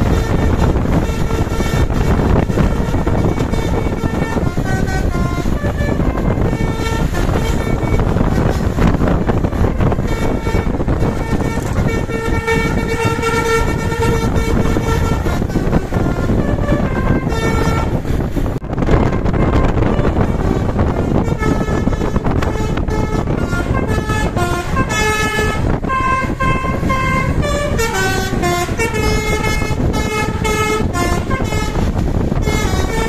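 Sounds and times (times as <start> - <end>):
multi-tone air horn melody: 0.0 - 33.0
steady loud noise: 0.0 - 33.0.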